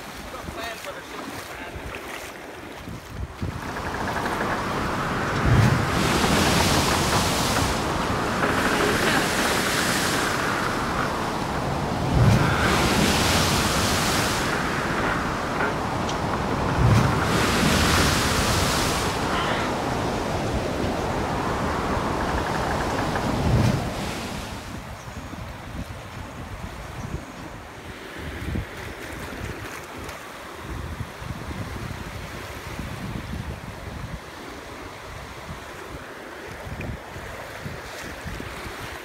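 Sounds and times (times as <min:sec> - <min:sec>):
surf waves washing onto beach: 0:00.0 - 0:39.0
wind buffeting microphone: 0:00.0 - 0:39.0.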